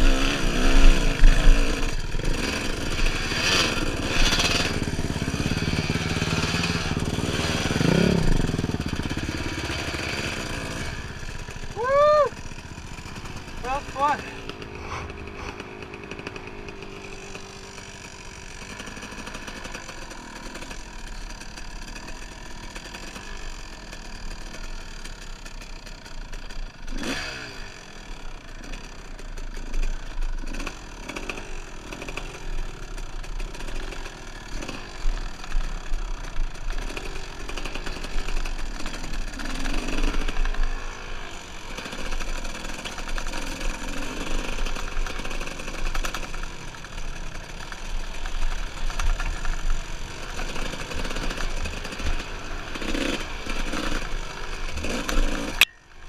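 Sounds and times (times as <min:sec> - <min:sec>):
dirt bike engine revving: 0:00.0 - 0:55.7.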